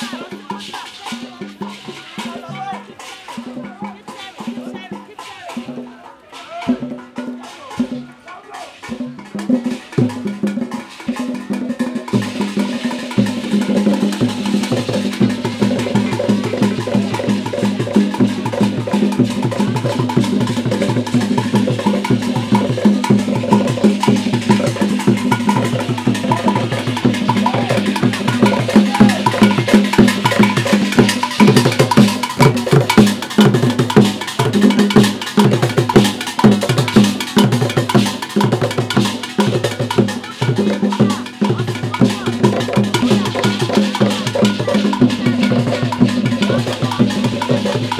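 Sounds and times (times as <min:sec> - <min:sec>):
percussion music with drums: 0:00.0 - 0:47.9.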